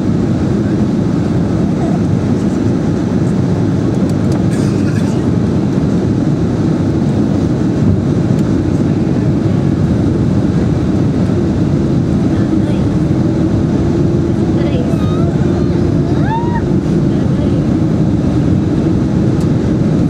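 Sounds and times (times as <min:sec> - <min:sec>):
jet engine and airflow noise: 0:00.0 - 0:20.0.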